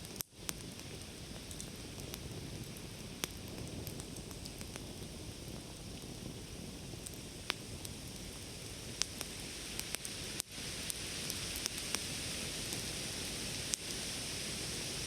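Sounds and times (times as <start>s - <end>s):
campfire crackling: 0.0s - 15.0s
fire popping and snapping: 0.0s - 15.0s.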